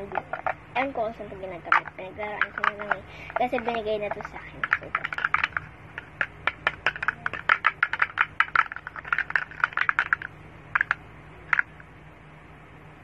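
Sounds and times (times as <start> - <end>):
plastic container clicking: 0.0 - 0.6, 1.7 - 11.7.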